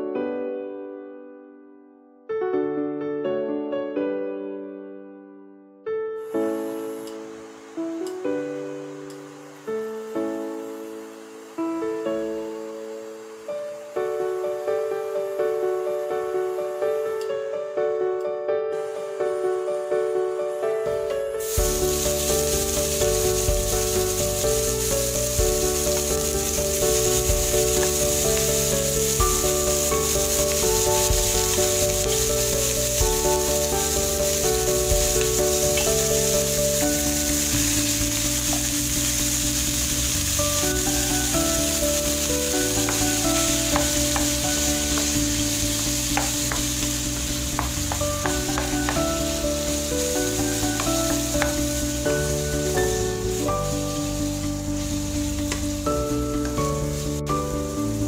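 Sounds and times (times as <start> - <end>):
background music sustained notes: 6.2 - 58.0
meat sizzling in hot oil: 6.3 - 17.2, 18.8 - 58.0.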